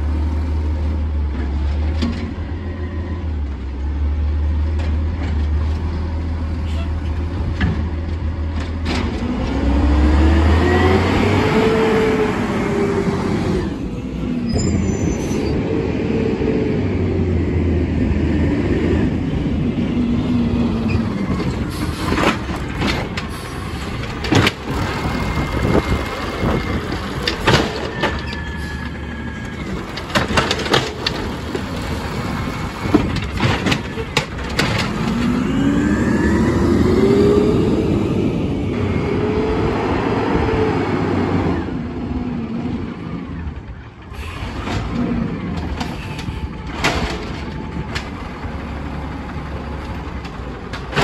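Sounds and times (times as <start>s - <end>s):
truck engine revving: 8.2s - 51.0s.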